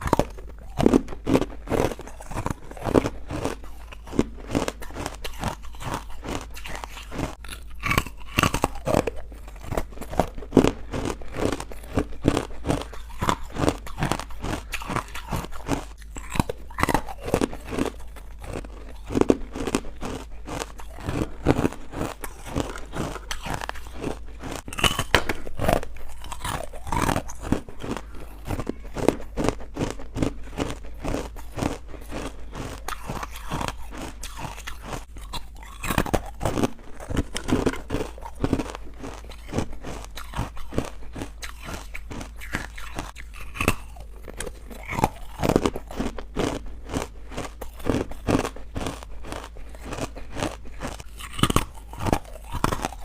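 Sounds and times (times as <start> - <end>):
person chewing crunchy food: 0.0 - 53.0.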